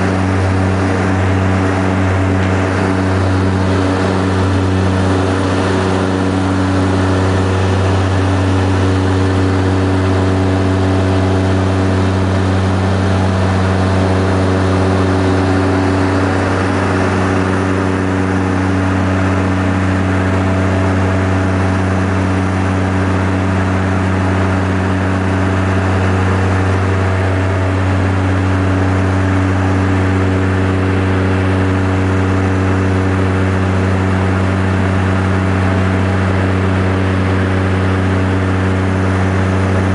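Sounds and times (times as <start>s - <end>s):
propeller engines humming: 0.0s - 39.9s.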